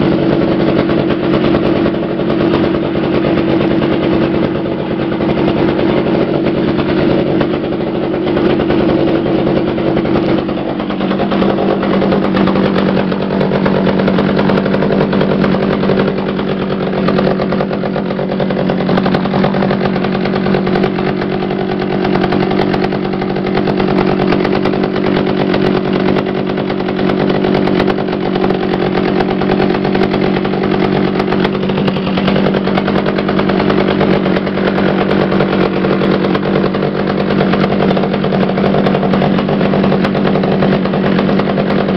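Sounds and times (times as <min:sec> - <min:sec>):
chainsaw engine running: 0:00.0 - 0:41.9.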